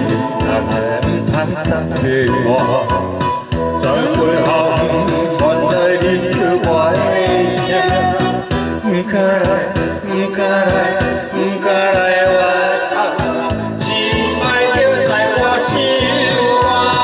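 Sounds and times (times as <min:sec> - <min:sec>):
karaoke backing track: 0:00.0 - 0:17.0
voices singing together: 0:00.0 - 0:17.0.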